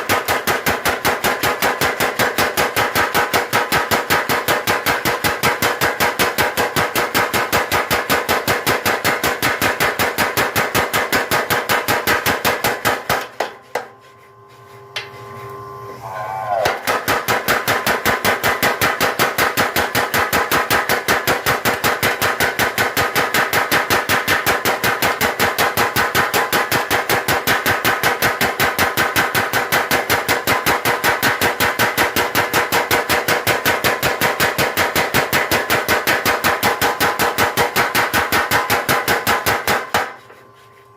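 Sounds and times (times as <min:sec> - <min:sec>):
power hammer striking steel: 0:00.0 - 0:13.9, 0:16.5 - 0:40.4.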